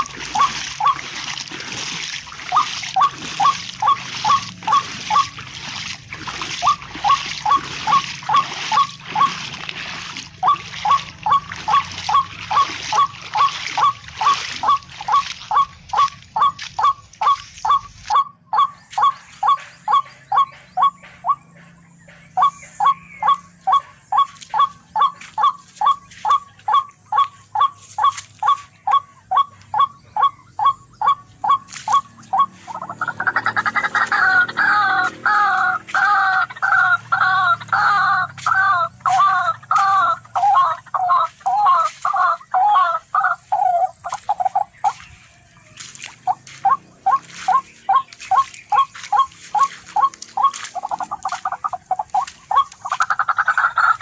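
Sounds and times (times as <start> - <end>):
short animal calls: 0.0 - 1.1, 2.2 - 21.7, 22.4 - 54.0.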